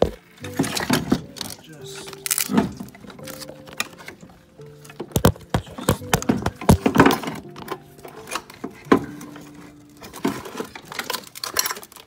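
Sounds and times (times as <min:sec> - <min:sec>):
tools and metal parts clinking: 0:00.4 - 0:12.0.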